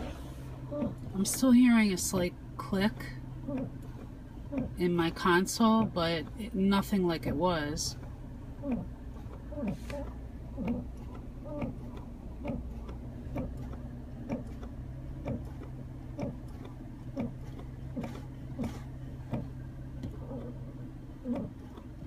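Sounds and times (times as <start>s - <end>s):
low cabin hum: 0.0s - 22.0s.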